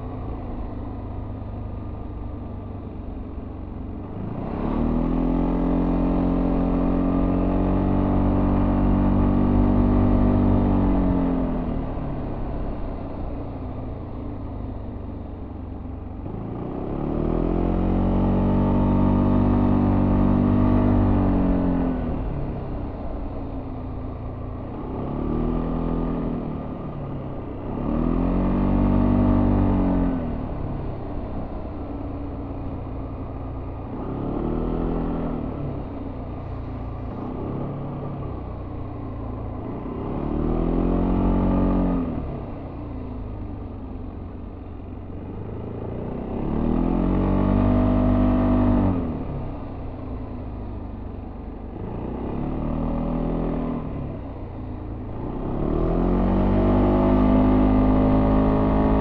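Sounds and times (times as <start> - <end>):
motorcycle engine revving: 3.8 - 14.9, 15.9 - 59.0.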